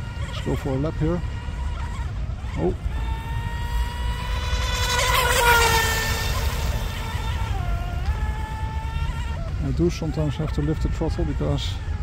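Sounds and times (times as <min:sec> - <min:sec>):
rc boat motor whine: 0:00.0 - 0:12.0.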